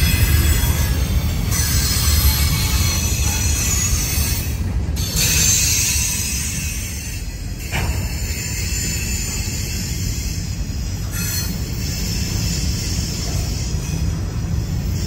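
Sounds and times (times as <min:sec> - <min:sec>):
high squeal and hiss: 0:00.0 - 0:15.0
train wheels rumbling on rails: 0:00.0 - 0:15.0.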